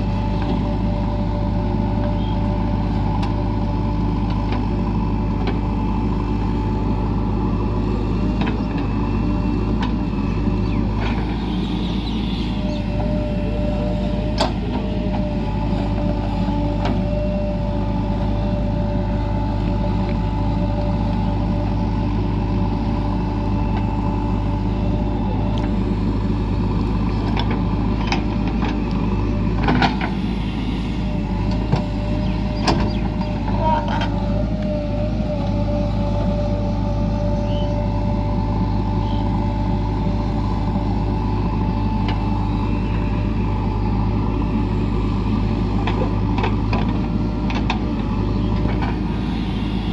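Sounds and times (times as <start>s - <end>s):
diesel engine running: 0.0s - 49.9s
high engine whine: 0.0s - 49.9s.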